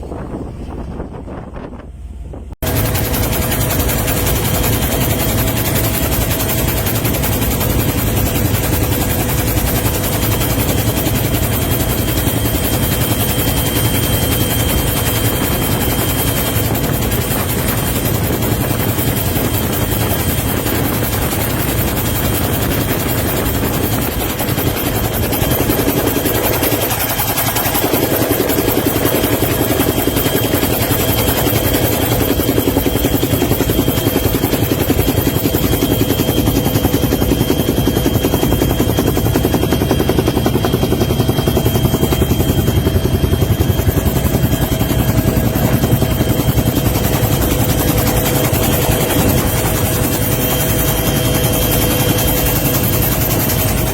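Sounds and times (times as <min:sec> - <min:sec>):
helicopter rotor chop: 0:00.0 - 0:53.9
helicopter whine: 0:00.0 - 0:53.9.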